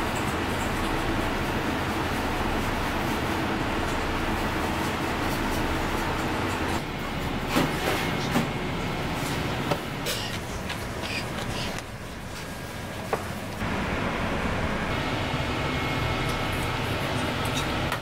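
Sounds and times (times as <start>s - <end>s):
kitchen rumble and hiss: 0.0s - 18.0s.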